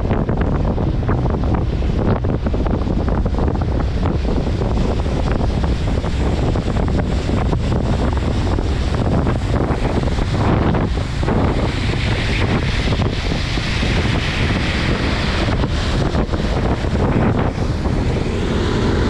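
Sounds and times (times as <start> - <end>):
gusty wind rumble: 0.0 - 19.0
heavy rain falling: 2.8 - 19.0.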